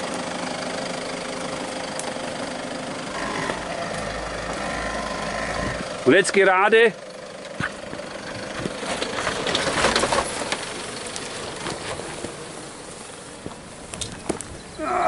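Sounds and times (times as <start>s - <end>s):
car engine running slowly: 0.0s - 15.0s
vehicle body crackling and scraping: 0.0s - 15.0s.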